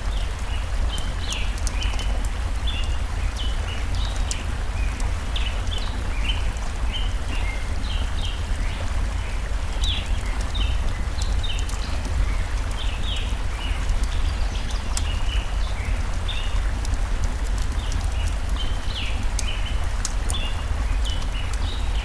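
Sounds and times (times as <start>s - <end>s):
faint light ticks: 0.0s - 22.0s
flowing stream: 0.0s - 22.0s
small songbirds chirping: 0.0s - 22.0s.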